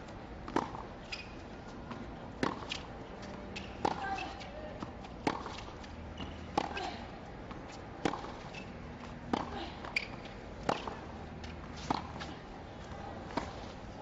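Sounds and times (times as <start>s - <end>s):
stadium background noise: 0.0s - 14.0s
rackets striking tennis ball: 0.5s - 12.4s.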